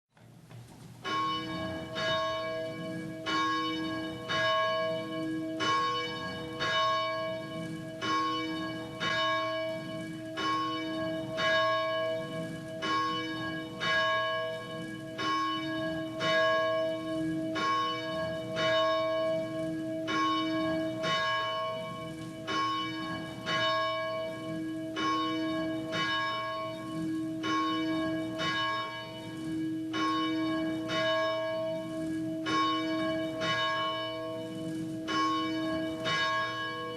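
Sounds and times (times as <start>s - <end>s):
church bell tolling: 1.0s - 36.9s.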